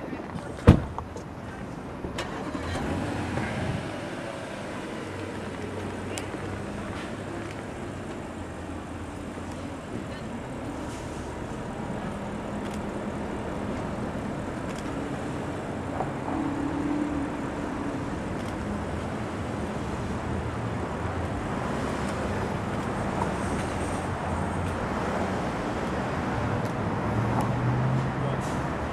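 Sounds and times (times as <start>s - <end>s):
outdoor traffic noise: 0.0s - 28.9s.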